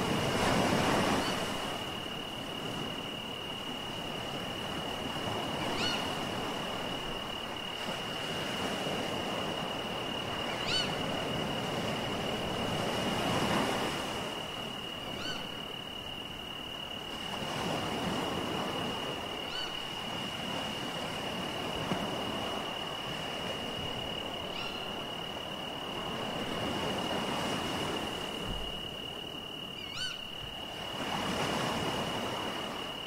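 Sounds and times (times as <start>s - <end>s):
sea waves washing in: 0.0s - 15.1s, 17.0s - 29.7s, 30.5s - 33.0s.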